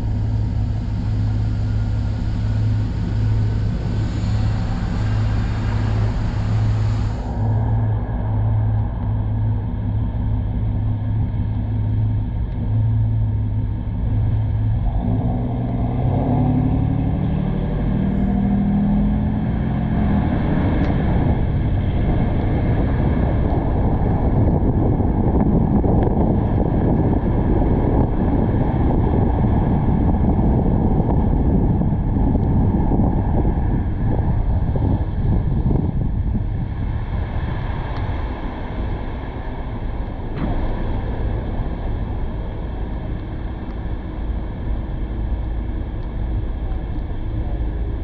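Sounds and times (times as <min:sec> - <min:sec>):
car road noise: 0:00.0 - 0:48.0
wind noise: 0:00.0 - 0:48.0.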